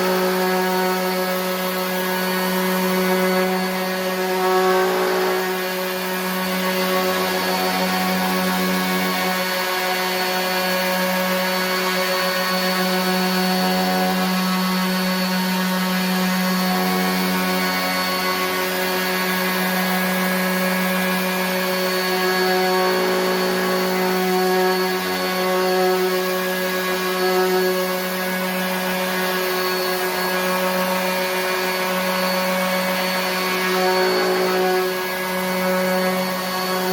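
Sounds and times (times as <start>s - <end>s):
orbit sander motor hum: 0.0s - 36.9s
sanding pad hissing on wood: 0.0s - 36.9s.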